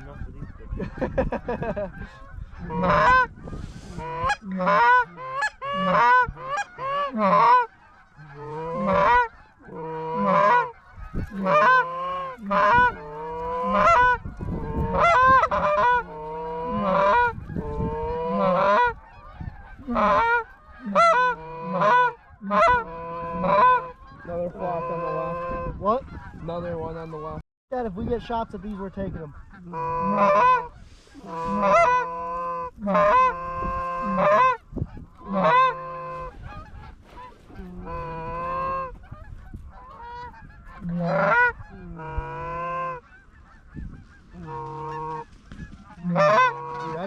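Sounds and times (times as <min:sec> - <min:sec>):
geese honking: 0:00.0 - 0:47.0.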